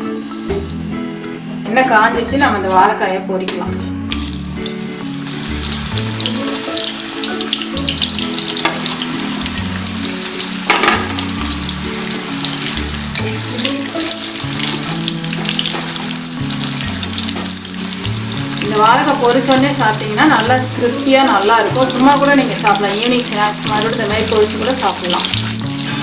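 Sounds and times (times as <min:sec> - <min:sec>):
soft background music: 0:00.0 - 0:26.0
banana slices deep-frying in oil: 0:04.1 - 0:26.0.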